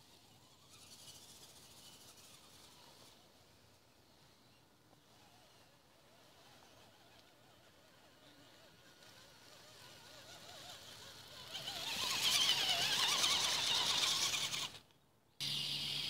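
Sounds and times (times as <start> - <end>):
toy truck motor whining: 0.2 - 3.2, 5.2 - 16.0.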